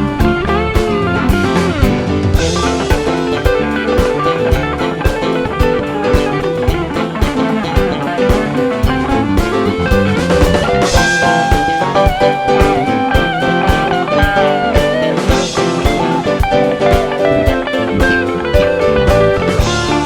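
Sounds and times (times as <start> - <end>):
electric guitar solo: 0.0 - 20.0
funk band playing: 0.0 - 20.0.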